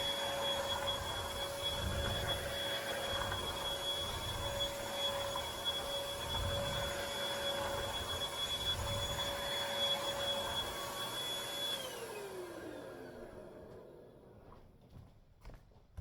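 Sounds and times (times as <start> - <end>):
vacuum cleaner whining: 0.0 - 14.5.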